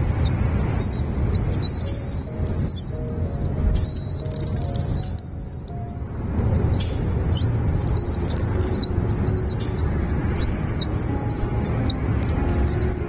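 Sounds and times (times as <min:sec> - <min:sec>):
low rumble: 0:00.0 - 0:13.0
small birds chirping: 0:00.0 - 0:13.0.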